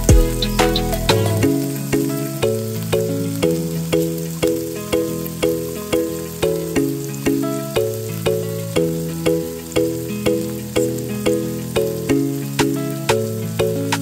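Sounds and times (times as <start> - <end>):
plucked music with bass line: 0.0 - 14.0.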